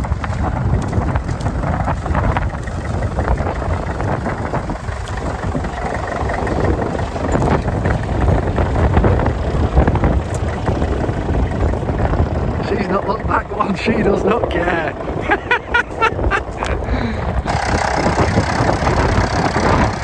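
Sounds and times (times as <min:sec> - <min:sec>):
tractor engine running: 0:00.0 - 0:20.0
wind buffeting microphone: 0:00.0 - 0:20.0.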